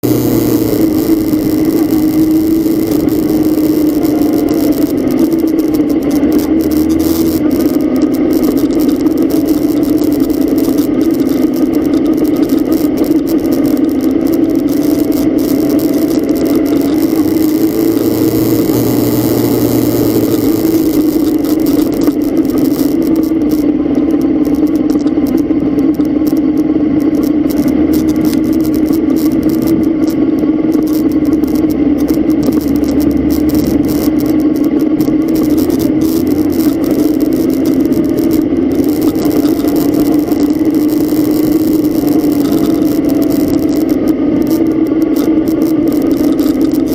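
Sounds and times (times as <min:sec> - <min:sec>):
rain: 0:00.0 - 0:46.9
road noise: 0:00.0 - 0:46.9
vehicle engine droning: 0:00.0 - 0:46.9.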